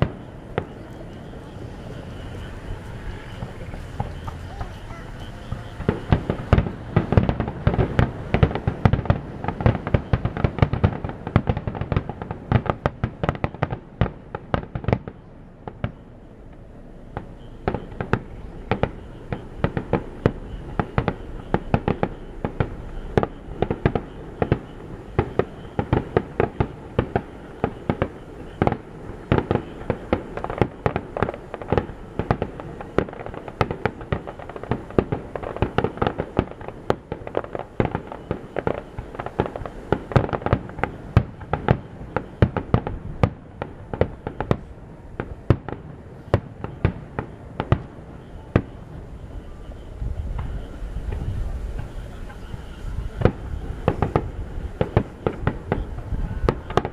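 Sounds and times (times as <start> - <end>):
fireworks bursting: 0.0 - 56.9
fireworks crackling: 0.0 - 56.9.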